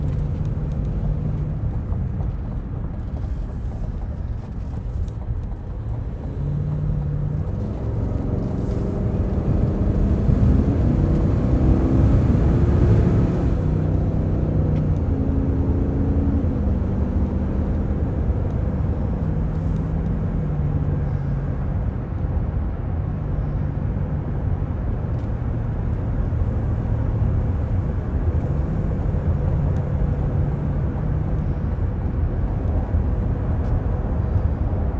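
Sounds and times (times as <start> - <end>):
car engine accelerating: 0.0 - 34.9
tyre and road noise: 0.0 - 34.9.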